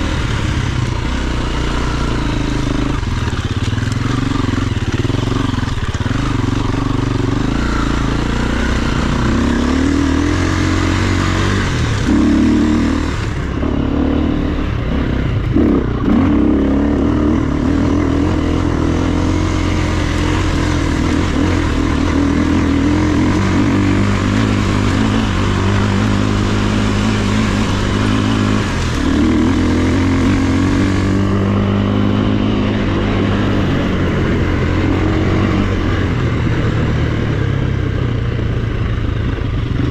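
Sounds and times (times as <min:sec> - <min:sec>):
dirt bike engine revving: 0:00.0 - 0:38.8.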